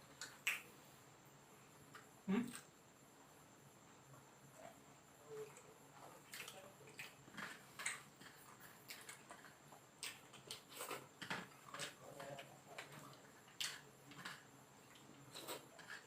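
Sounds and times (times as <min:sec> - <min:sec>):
people chewing food: 0:00.0 - 0:01.0, 0:03.8 - 0:16.0.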